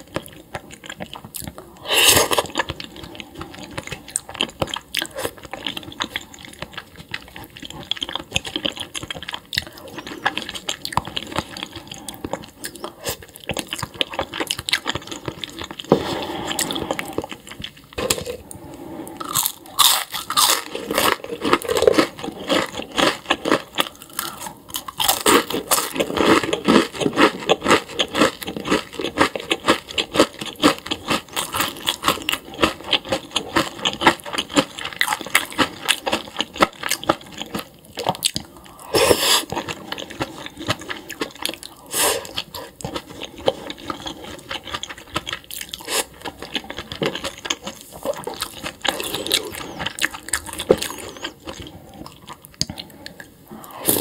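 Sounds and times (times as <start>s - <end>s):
chewing crunchy food: 0.0s - 54.0s.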